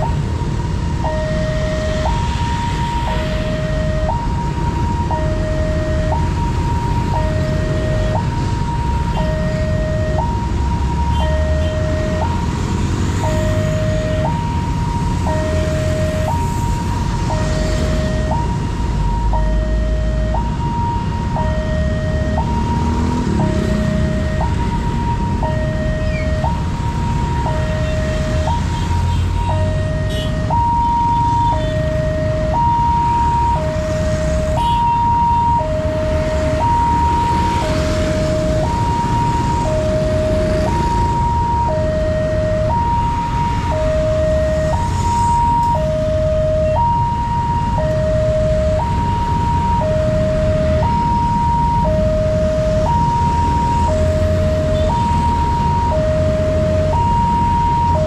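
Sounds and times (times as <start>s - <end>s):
low rumble of vehicles: 0.0s - 58.0s
two-tone crossing alarm: 0.0s - 58.0s.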